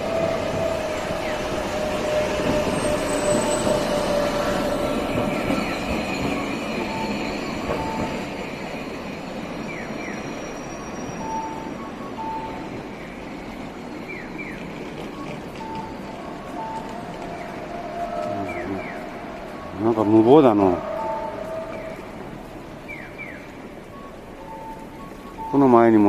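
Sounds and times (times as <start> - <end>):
street noise: 0.0 - 26.0
streetcar passing with high whine: 0.0 - 26.0.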